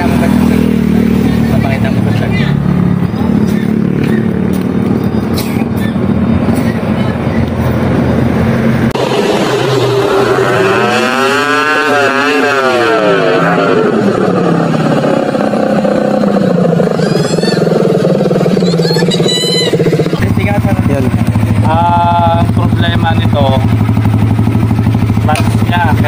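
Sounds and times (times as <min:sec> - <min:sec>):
small motorcycle engine revving: 0:00.0 - 0:26.0.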